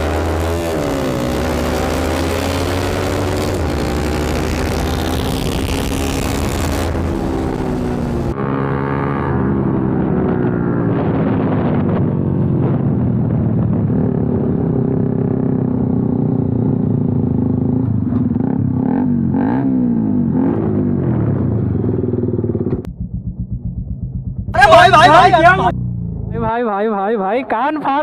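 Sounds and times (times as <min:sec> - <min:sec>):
motorcycle engines revving: 0:00.0 - 0:26.6.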